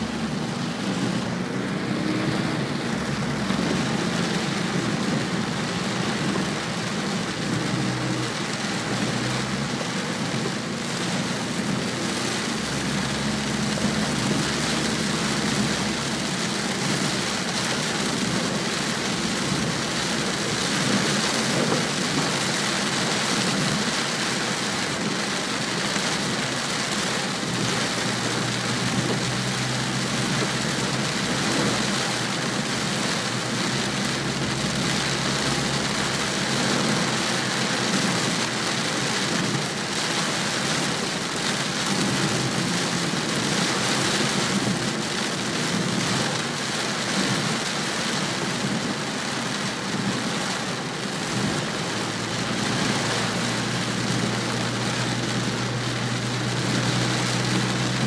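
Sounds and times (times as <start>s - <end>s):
car engine and road hum: 0.0s - 58.0s
rain hitting car windscreen: 0.0s - 58.0s.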